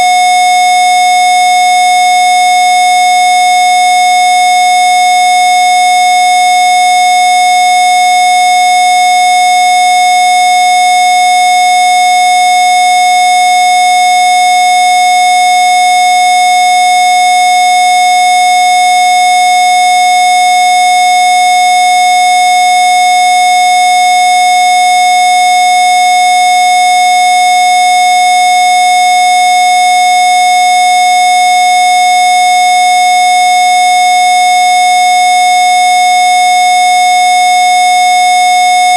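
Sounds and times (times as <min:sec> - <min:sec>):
steady sine-wave tone: 0:00.0 - 0:38.9.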